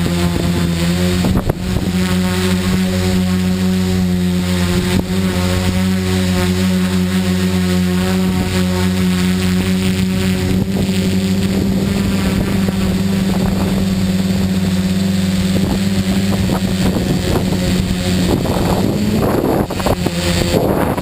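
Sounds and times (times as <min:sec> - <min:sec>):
wind buffeting microphone: 0:00.0 - 0:06.8, 0:07.9 - 0:21.0
drone motors humming: 0:00.0 - 0:21.0.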